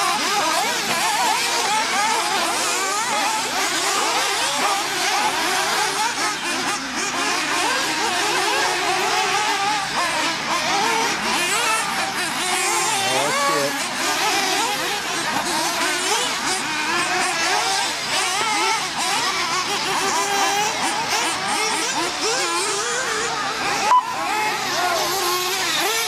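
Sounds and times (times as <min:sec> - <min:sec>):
small high-revving engines: 0:00.0 - 0:26.0.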